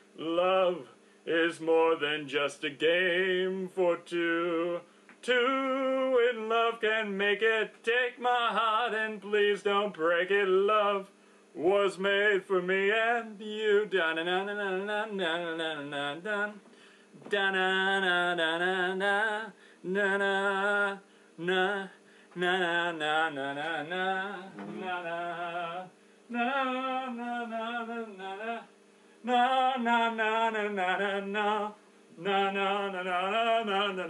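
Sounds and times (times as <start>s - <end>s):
man singing unaccompanied: 0.0s - 34.0s.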